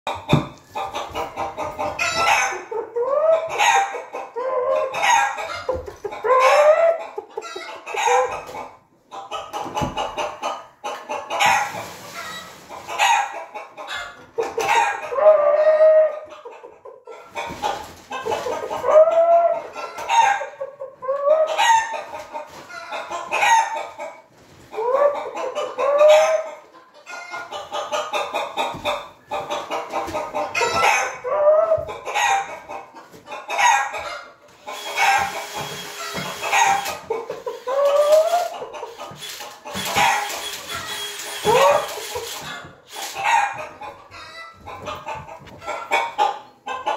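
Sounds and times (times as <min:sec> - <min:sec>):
chicken clucking and crowing: 0:00.1 - 0:46.9.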